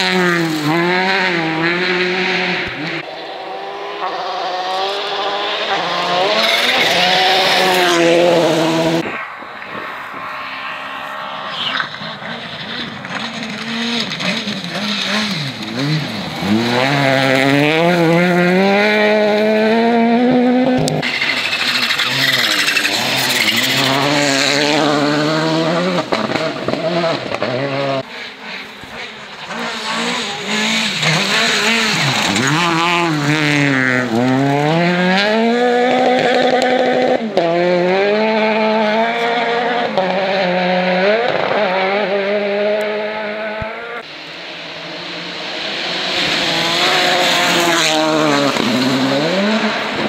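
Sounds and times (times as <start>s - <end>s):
rally car engines at full throttle: 0.0s - 50.0s.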